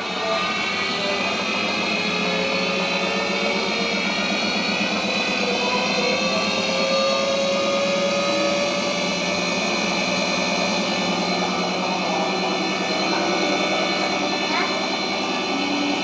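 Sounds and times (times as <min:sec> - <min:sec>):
washing machine motor whine: 0:00.0 - 0:16.0.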